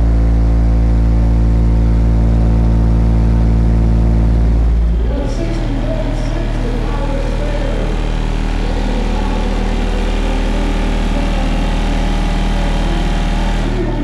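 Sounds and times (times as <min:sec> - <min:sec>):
buzzy subwoofer bass drone: 0:00.0 - 0:14.0.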